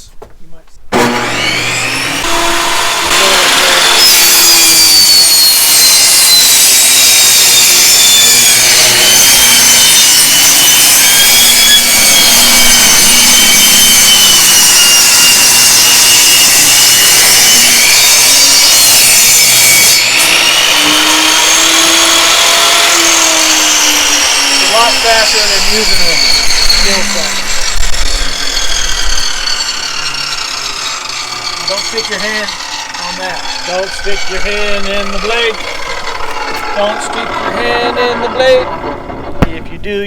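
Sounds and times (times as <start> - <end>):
power saw cutting wood: 0.9 - 40.0.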